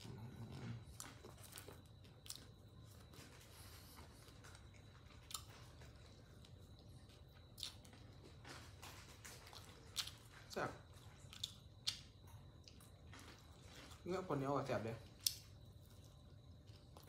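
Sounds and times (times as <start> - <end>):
person chewing crunchy food: 0.0 - 14.1, 15.0 - 17.0.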